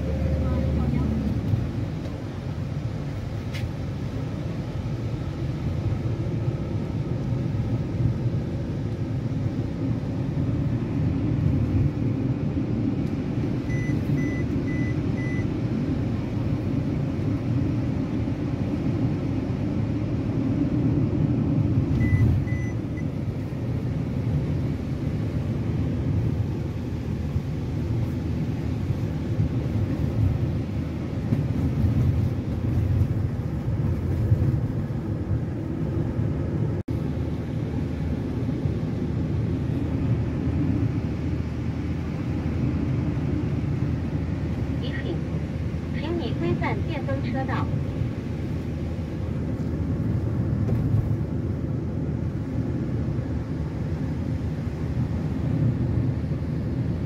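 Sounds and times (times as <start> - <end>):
van engine and road noise: 0.0 - 57.0.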